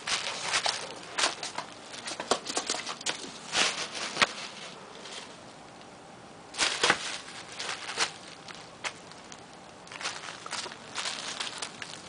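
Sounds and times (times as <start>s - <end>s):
bubble wrap crackling: 0.0s - 5.8s, 6.5s - 12.0s.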